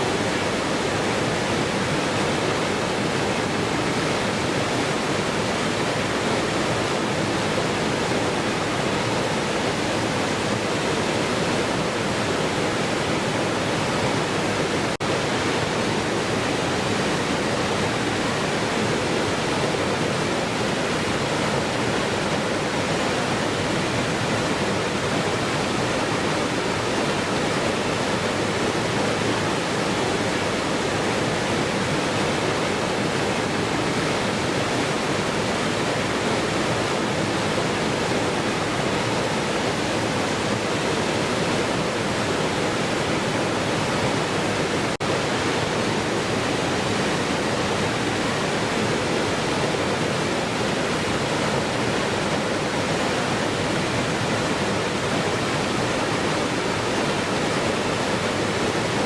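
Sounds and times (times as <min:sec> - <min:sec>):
waterfall roar: 0:00.0 - 0:59.0.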